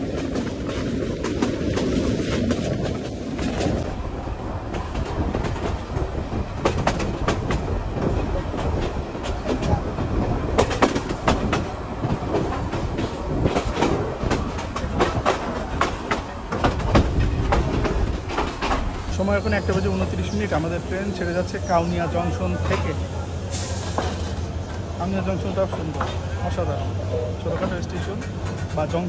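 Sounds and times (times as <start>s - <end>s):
wheels clacking over rail joints: 0.0s - 26.8s, 27.4s - 29.0s
train rumbling: 0.0s - 29.0s.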